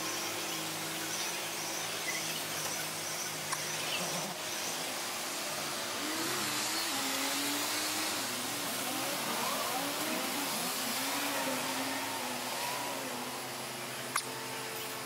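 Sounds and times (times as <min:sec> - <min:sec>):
sped-up truck and street noise: 0:00.0 - 0:15.0.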